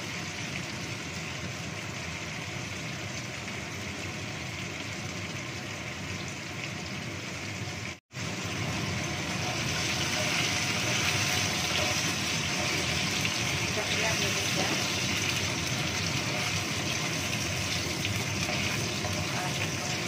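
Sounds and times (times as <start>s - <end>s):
tofu sizzling in oil: 0.0s - 20.0s.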